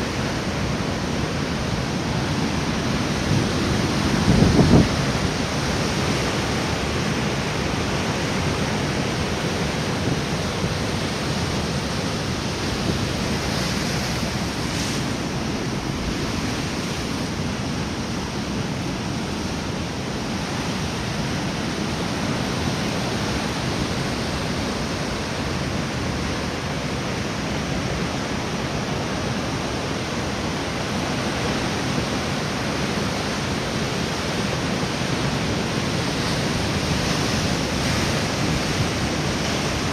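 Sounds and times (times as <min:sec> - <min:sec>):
strong wind: 0:00.0 - 0:39.9
waves breaking against pier: 0:00.0 - 0:39.9.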